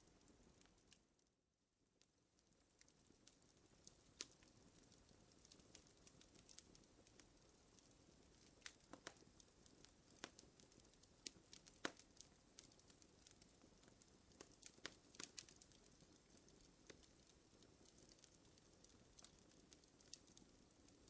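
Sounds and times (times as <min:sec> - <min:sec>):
wood fire popping and snapping: 0:00.0 - 0:01.3, 0:02.0 - 0:21.0
low steady fire hiss: 0:00.0 - 0:21.0.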